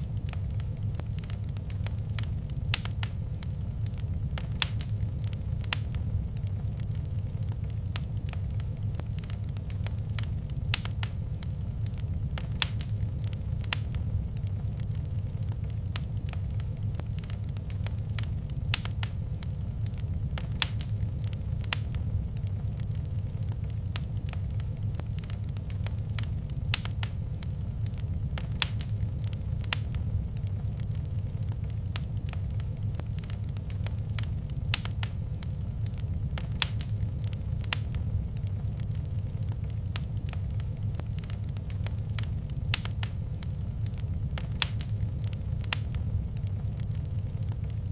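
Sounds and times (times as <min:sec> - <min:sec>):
fire popping and snapping: 0:00.0 - 0:47.9
low rumble of flames: 0:00.0 - 0:47.9
wood fire crackling: 0:00.0 - 0:47.9.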